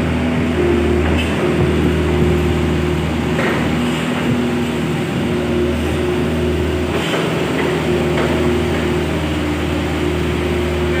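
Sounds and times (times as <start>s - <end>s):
excavator diesel engine running: 0.0s - 11.0s
excavator digging soil: 0.0s - 11.0s.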